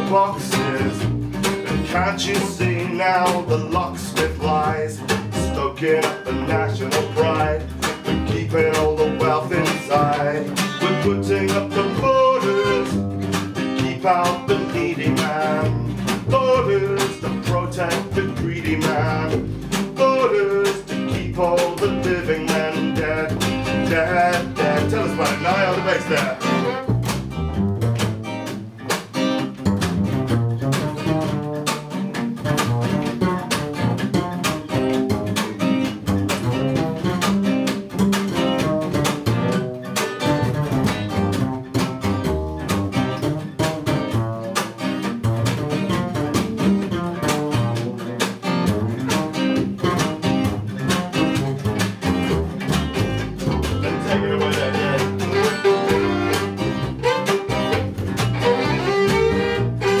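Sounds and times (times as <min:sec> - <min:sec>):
acoustic guitar: 0:00.0 - 1:00.0
double bass solo: 0:00.0 - 1:00.0.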